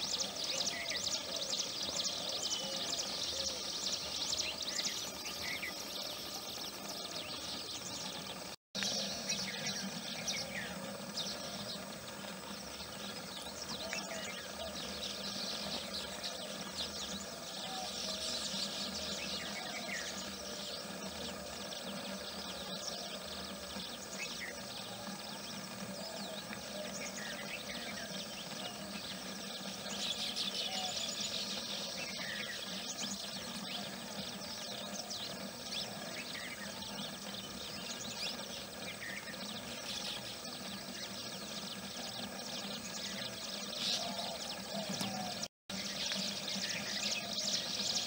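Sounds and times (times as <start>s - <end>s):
birds twittering: 0.0s - 48.0s.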